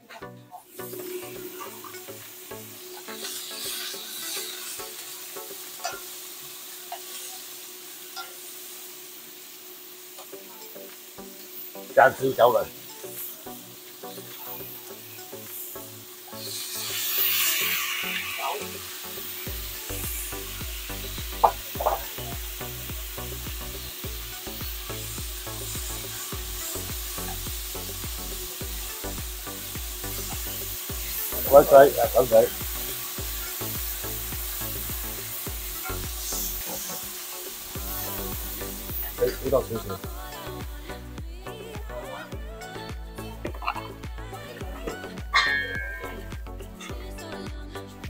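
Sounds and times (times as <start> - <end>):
food sizzling in a pan: 0.0 - 48.0.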